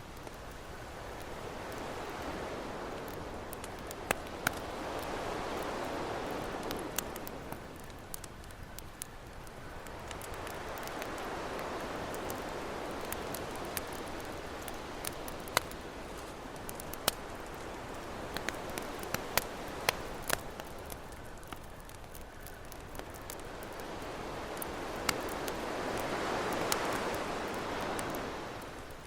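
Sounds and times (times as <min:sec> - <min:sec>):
ocean surf: 0:00.0 - 0:08.6, 0:09.3 - 0:21.6, 0:22.9 - 0:29.0
campfire crackling and popping: 0:00.0 - 0:29.0.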